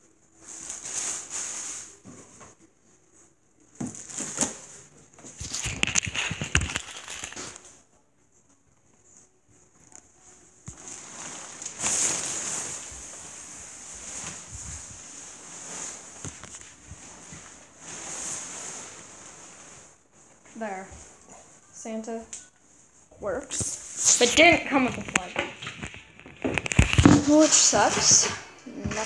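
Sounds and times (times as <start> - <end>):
rustling and crinkling handling: 0.1 - 29.0.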